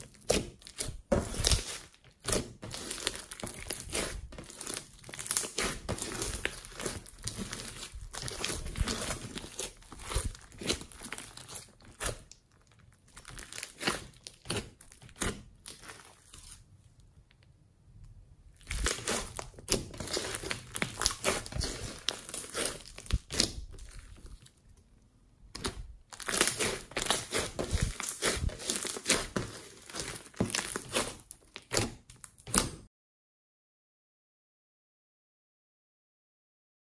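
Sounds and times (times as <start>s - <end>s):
slime squeezed crackling: 0.0s - 16.7s, 18.6s - 24.6s, 25.5s - 32.7s.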